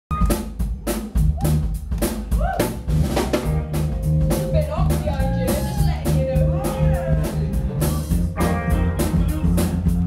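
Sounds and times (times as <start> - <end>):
live rock band playing: 0.1 - 10.0
snare and bass drum hits: 0.1 - 10.0.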